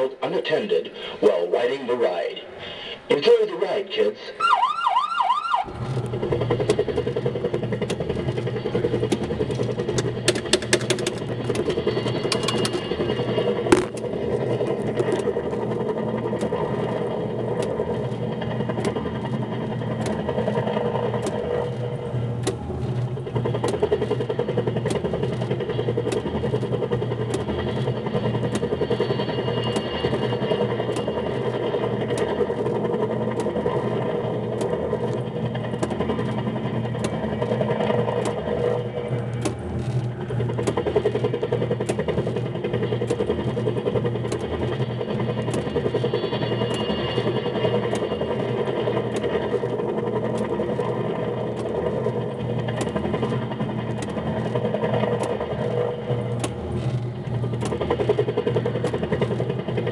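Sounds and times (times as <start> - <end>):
kiddie ride mechanical hum: 0.0 - 59.9
sharp mechanical clicks: 5.6 - 59.9.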